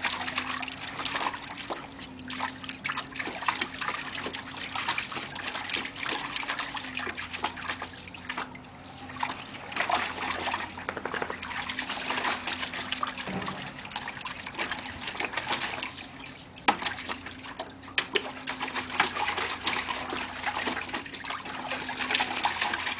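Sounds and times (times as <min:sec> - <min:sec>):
dog splashing in water: 0:00.0 - 0:22.9.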